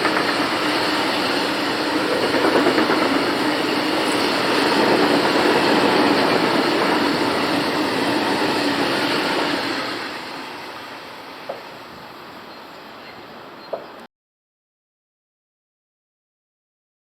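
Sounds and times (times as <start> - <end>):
train passing on track: 0.0 - 14.1.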